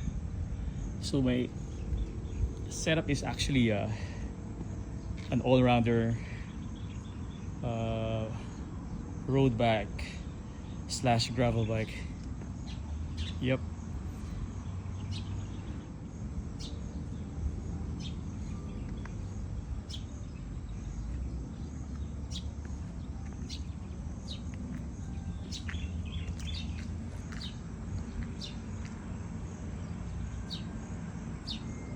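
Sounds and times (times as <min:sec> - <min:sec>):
birds chirping: 0:00.0 - 0:31.9
low outdoor rumble: 0:00.0 - 0:31.9.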